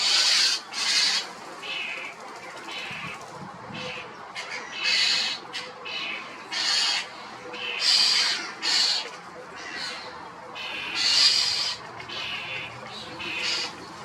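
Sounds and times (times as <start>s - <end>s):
starling rasping squawks: 0.0s - 3.2s, 3.8s - 13.9s.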